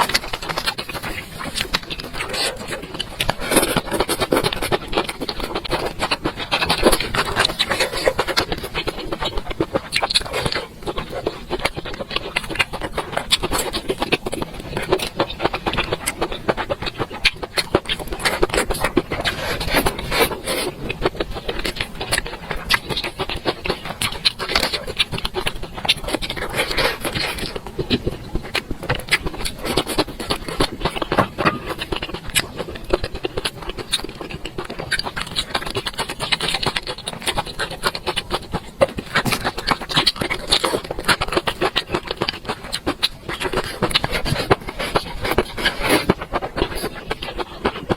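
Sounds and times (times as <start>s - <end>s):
close chewing and mouth noises: 0.0s - 47.9s.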